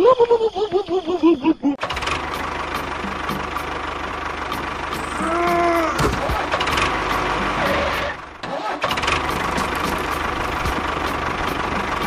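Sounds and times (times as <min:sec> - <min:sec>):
small tractor motor running: 0:01.8 - 0:12.0.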